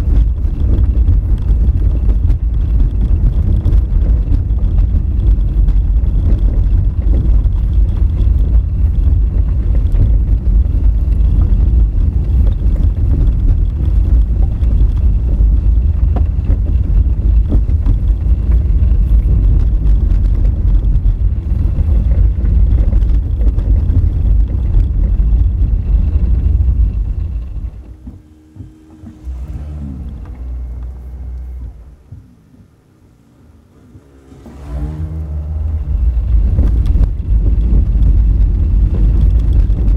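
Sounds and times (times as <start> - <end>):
tyres rumbling on gravel: 0.0 - 39.9.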